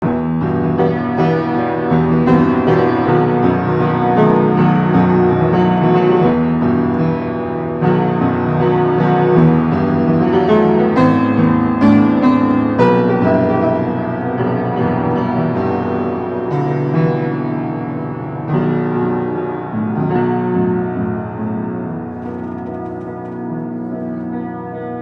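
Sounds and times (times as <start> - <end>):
piano playing chords: 0.0 - 25.0.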